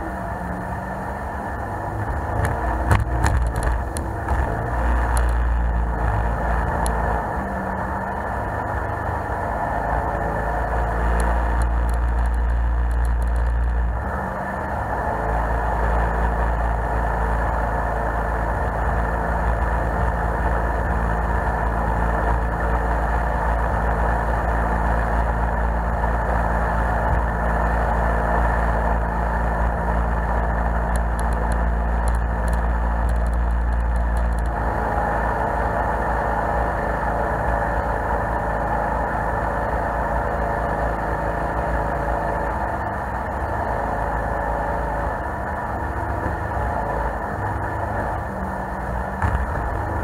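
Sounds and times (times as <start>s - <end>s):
jet boat engine running: 0.0s - 50.0s.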